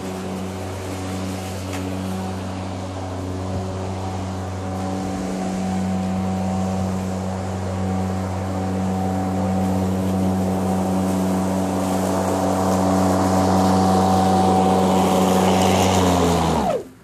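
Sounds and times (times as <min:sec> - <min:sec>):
electric lawn mower humming: 0:00.0 - 0:17.0.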